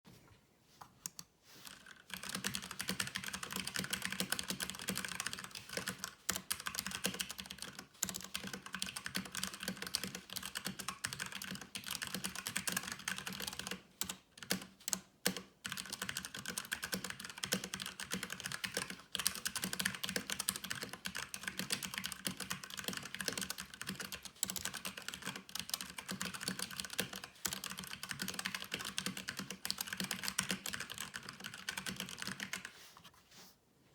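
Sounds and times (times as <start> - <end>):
fast typing on mechanical keyboard: 1.6 - 32.7.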